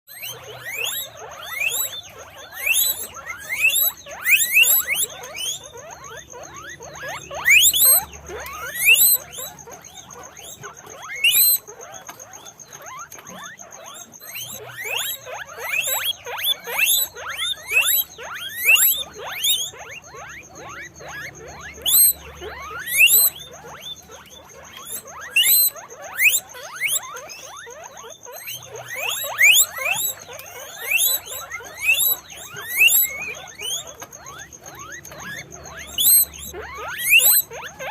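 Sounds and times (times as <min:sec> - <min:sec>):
guinea pigs squeaking: 0:00.1 - 0:37.9.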